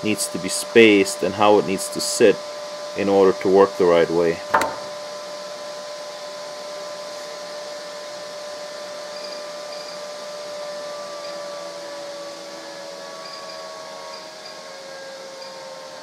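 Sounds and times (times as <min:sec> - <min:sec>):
mechanical whir with hum: 0:00.0 - 0:16.0.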